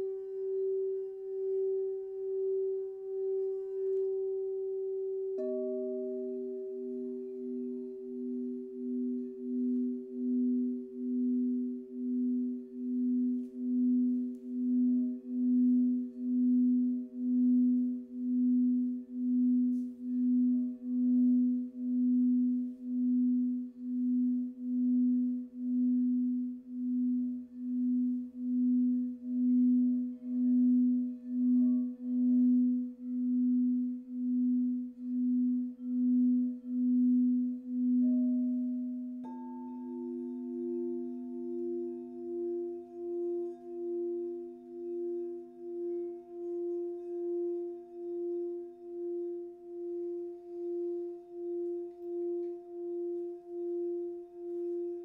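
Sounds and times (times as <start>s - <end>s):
higher singing bowl tone: 0.0s - 55.0s
singing bowl low tone: 0.0s - 55.0s.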